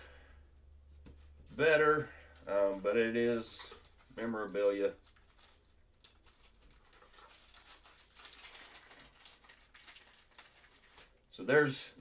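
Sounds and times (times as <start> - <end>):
trading cards rustling: 0.6 - 11.1.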